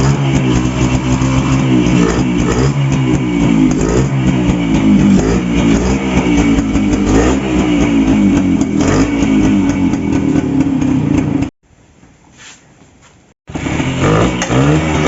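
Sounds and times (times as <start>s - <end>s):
two-stroke motorcycle engine running: 0.0s - 11.5s, 13.5s - 15.0s.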